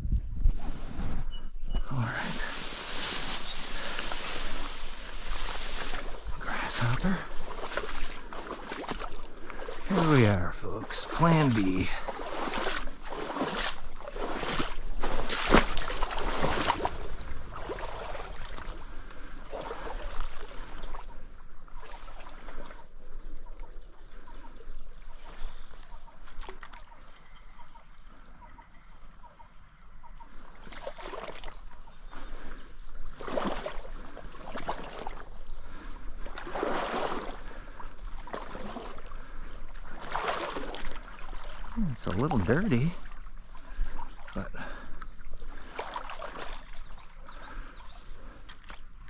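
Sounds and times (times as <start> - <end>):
water splashing around legs: 1.8 - 22.8, 30.6 - 49.0
running stream: 1.8 - 49.0.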